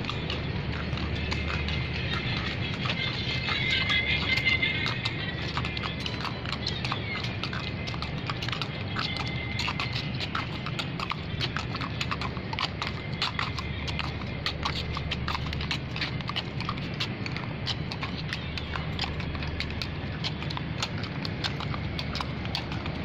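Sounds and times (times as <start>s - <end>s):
horse hooves clip-clopping: 0.0s - 23.0s
low hum: 0.0s - 23.0s.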